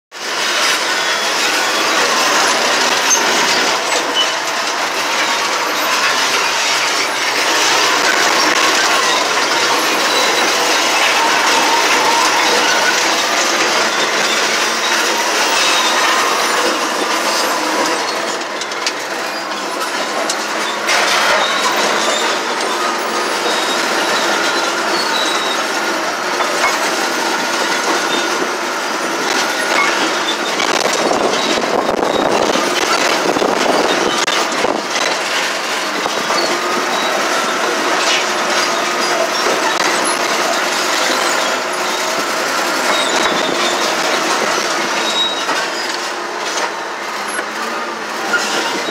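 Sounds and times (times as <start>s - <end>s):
bulldozer engine: 0.1s - 48.9s
steel tracks clanking and grinding: 0.2s - 48.9s
high squeal: 0.4s - 28.4s, 36.1s - 46.1s, 47.2s - 48.9s.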